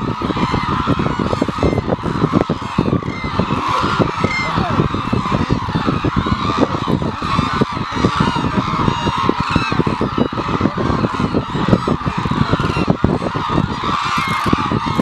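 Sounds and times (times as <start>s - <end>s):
cranes honking and trumpeting: 0.0s - 15.0s.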